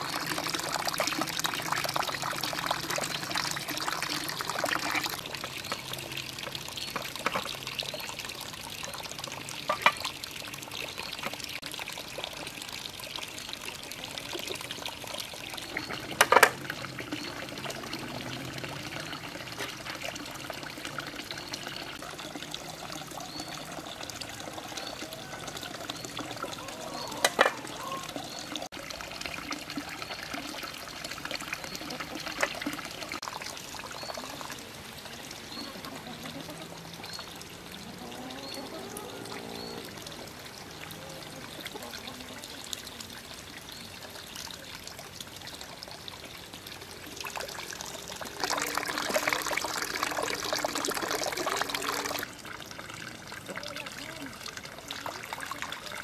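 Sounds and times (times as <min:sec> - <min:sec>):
water pouring and splashing: 0:00.0 - 0:56.0.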